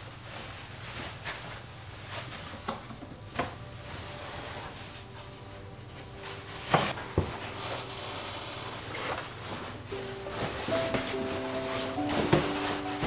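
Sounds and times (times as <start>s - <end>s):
low steady hum: 0.0s - 13.0s
soft footsteps: 0.2s - 13.0s.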